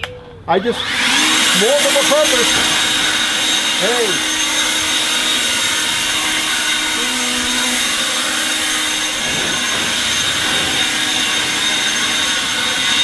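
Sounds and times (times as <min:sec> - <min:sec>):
leaf blower running: 0:00.6 - 0:13.0.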